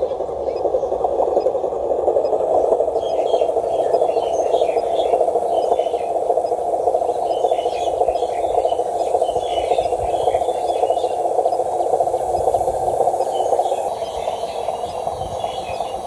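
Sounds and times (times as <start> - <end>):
frog chorus trilling: 0.0 - 16.0.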